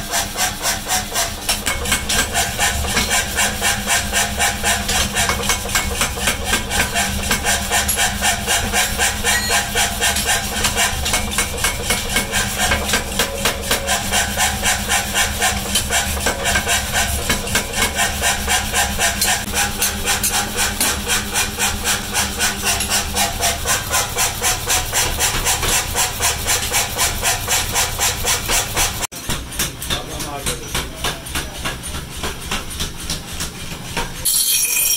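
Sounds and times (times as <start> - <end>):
power hammer striking: 0.1 - 34.9.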